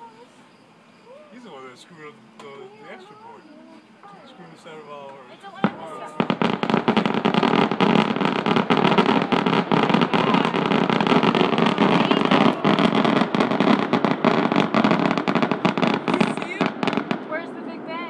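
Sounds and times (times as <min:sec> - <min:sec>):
fireworks crackling: 0:01.1 - 0:18.0.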